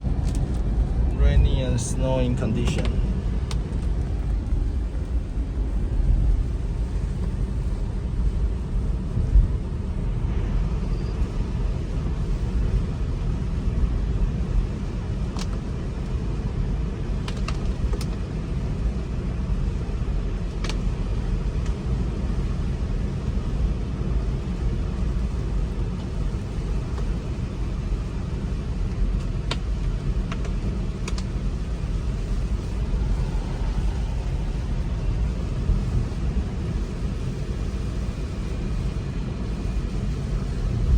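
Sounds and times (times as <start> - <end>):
tyre and road noise: 0.0 - 22.8, 23.4 - 40.9.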